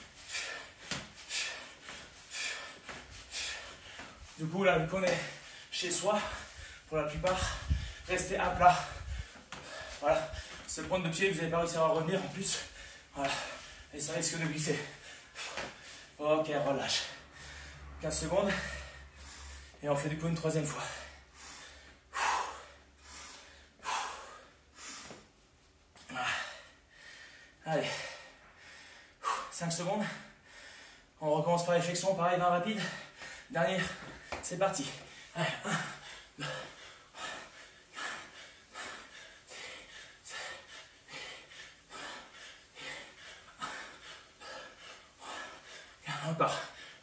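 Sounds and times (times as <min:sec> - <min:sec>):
man breathing hard: 0:00.0 - 0:20.0, 0:20.6 - 0:25.4, 0:26.0 - 0:31.2, 0:32.5 - 0:47.0.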